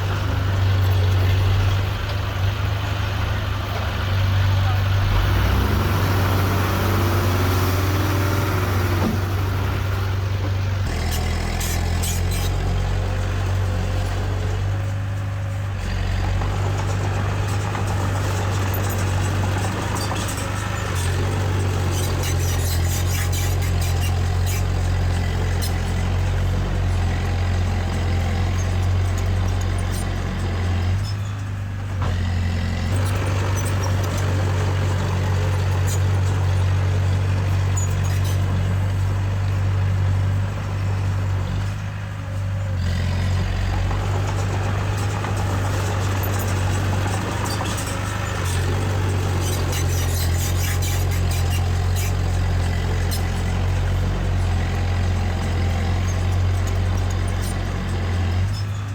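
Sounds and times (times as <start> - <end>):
diesel earthmoving machinery running: 0.0 - 58.9.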